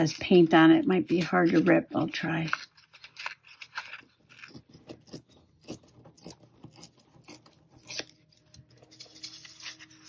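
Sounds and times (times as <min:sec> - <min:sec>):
paper being torn: 0:01.4 - 0:10.0.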